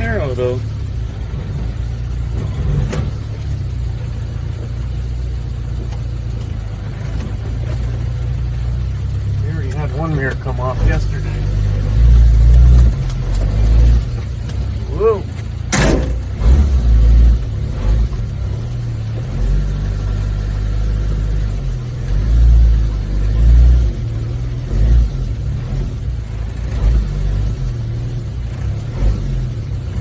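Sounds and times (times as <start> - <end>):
small engine rumbling: 0.0 - 30.0.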